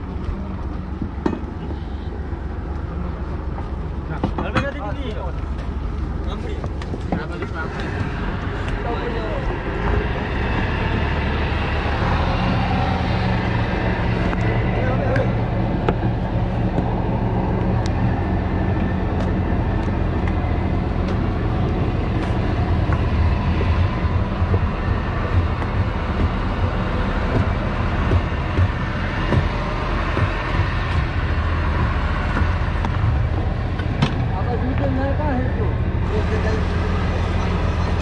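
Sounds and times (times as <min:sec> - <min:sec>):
boat engine droning: 0:00.0 - 0:38.0.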